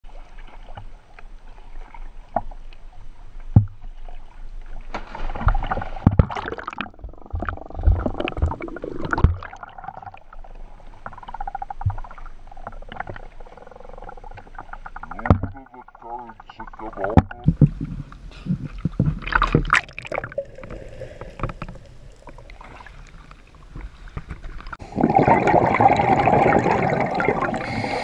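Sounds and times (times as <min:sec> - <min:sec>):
underwater bubbling: 0:00.1 - 0:28.0
water sloshing: 0:03.8 - 0:28.0.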